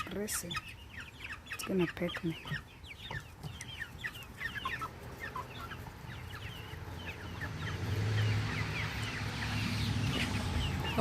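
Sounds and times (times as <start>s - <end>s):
chickens chirping and clucking: 0.0s - 11.0s.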